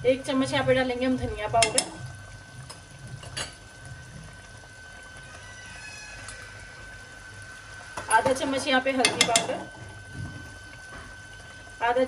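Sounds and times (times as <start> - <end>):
curry simmering in a pot: 0.0 - 12.0.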